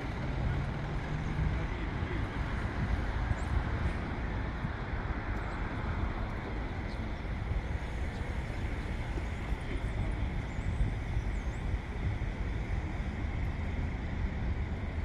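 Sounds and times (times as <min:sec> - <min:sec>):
faint engine hum: 0:00.0 - 0:15.0
road traffic rumble: 0:00.0 - 0:15.0.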